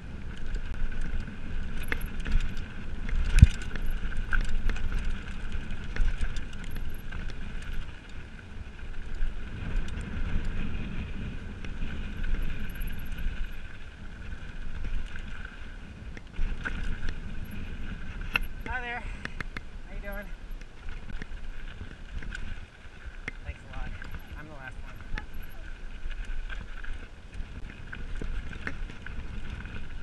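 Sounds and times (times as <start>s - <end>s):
bike rattling and clicking: 0.0s - 30.0s
bike tyres on dirt: 0.0s - 30.0s
wind rumble on microphone: 0.0s - 30.0s.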